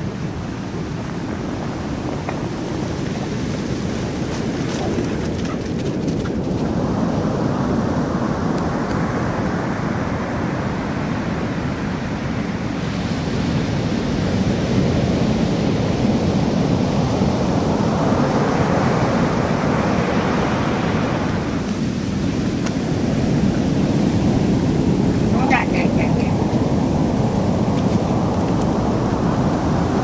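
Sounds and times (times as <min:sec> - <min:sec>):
surf breaking on sand: 0:00.0 - 0:30.0.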